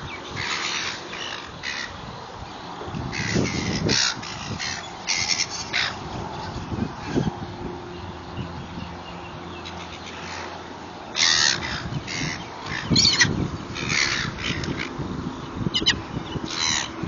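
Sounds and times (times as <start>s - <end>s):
gulls squawking: 0.0s - 2.2s, 2.8s - 7.4s, 9.4s - 15.0s, 15.6s - 17.0s.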